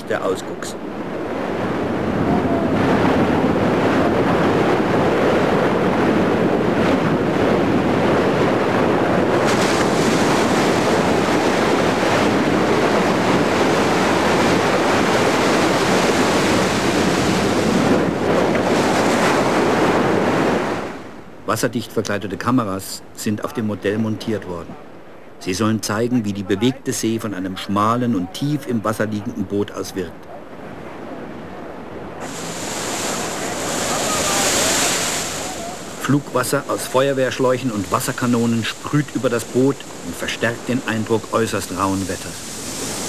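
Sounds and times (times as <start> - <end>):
wind buffeting microphone: 0.0 - 21.4, 22.4 - 43.0
waves breaking and spraying: 0.0 - 43.0.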